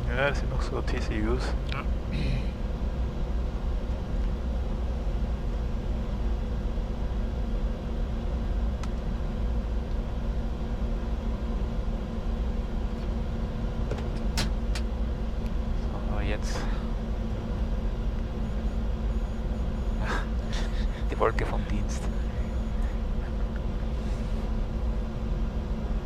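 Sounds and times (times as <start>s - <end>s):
faint steady hum: 0.0s - 26.0s
jet airflow and engine noise: 0.0s - 26.0s.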